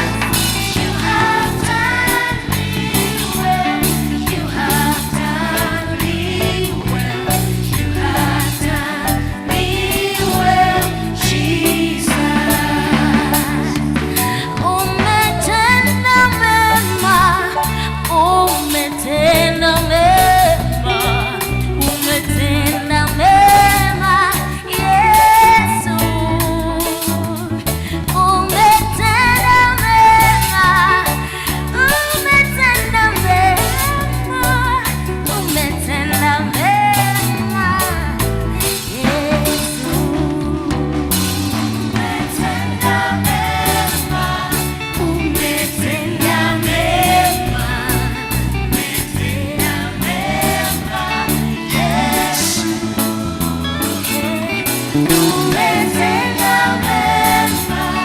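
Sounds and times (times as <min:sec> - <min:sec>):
worship band playing: 0:00.0 - 0:58.0
person singing: 0:01.1 - 0:41.5, 0:49.1 - 0:58.0.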